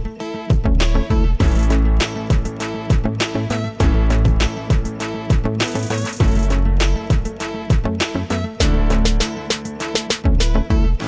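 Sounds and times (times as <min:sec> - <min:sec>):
upbeat music with bass guitar drums: 0:00.0 - 0:11.0.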